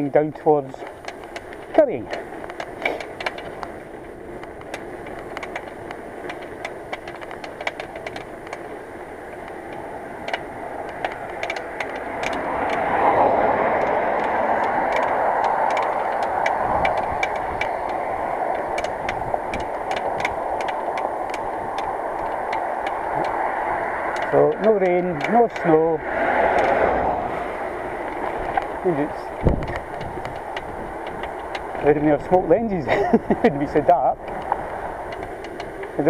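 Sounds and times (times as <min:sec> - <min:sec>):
sharp ticks and rattles: 0:00.0 - 0:36.0
wind and tyre noise: 0:00.0 - 0:36.0.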